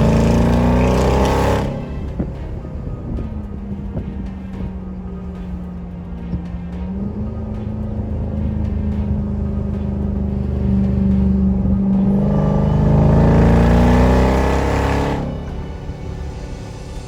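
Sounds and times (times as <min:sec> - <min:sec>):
engine accelerating hard: 0:00.0 - 0:17.0.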